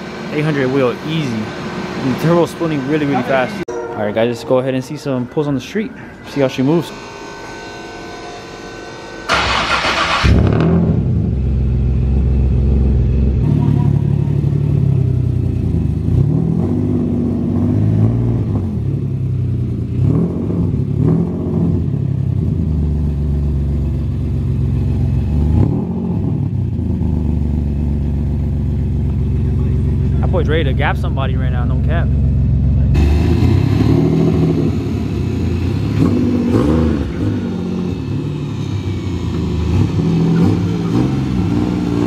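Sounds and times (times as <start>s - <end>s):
car engine starting and idling: 0.0s - 3.7s, 9.2s - 42.0s
engine revving: 6.3s - 42.0s.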